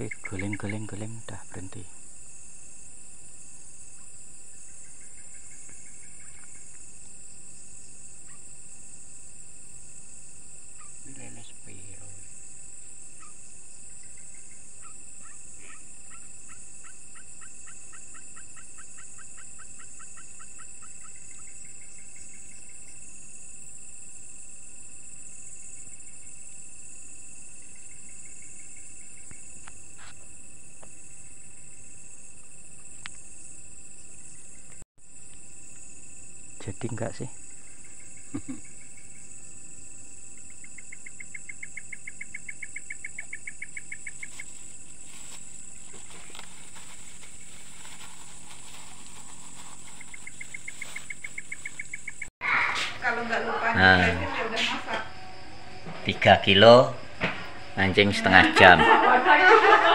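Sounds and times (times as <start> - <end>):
crickets and insects shrilling: 0.0 - 59.9
insect trilled calls: 0.0 - 59.9
rapid even insect pulses: 0.0 - 59.9.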